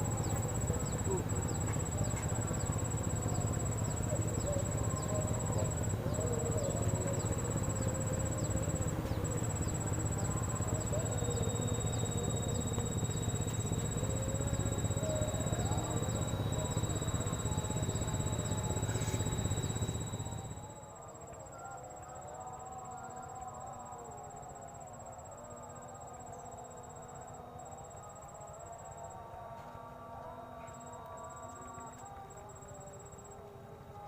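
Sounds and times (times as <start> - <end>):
insects chirping trill: 0.0 - 33.5.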